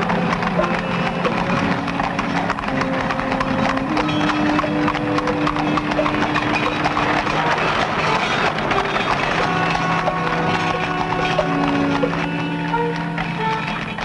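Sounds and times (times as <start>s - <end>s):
background music: 0.0s - 14.0s
carriage clattering: 0.0s - 14.0s
horse hooves clip-clopping: 0.0s - 14.0s.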